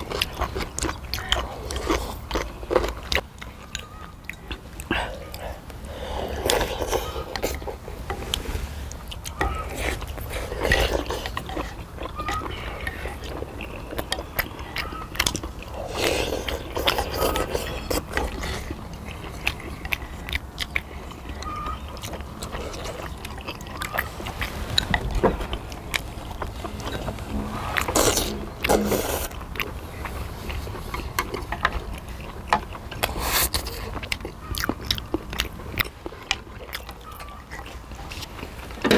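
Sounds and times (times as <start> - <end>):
slurping and chewing: 0.0 - 38.9.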